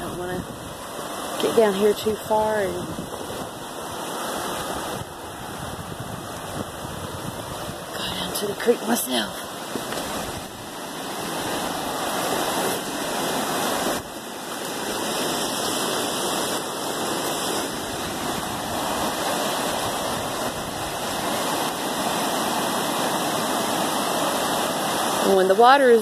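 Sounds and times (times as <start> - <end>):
flood water rushing: 0.0 - 26.0.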